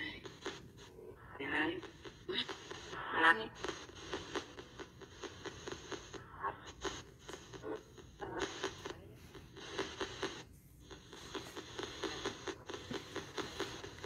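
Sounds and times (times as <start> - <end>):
crackling static: 0.0 - 14.0.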